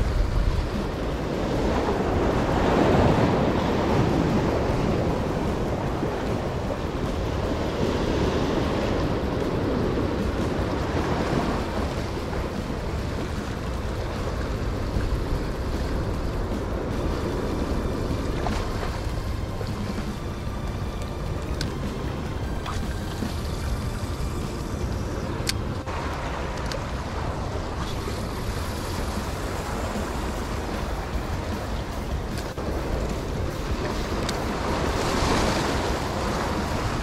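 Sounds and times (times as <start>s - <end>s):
waves splashing against rocks: 0.0s - 37.0s
wind rumbling on microphone: 0.0s - 37.0s.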